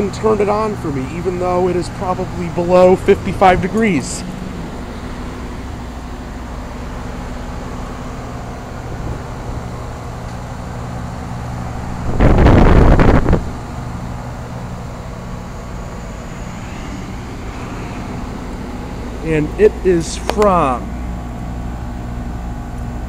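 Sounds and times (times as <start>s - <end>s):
air conditioner unit humming: 0.0s - 23.0s.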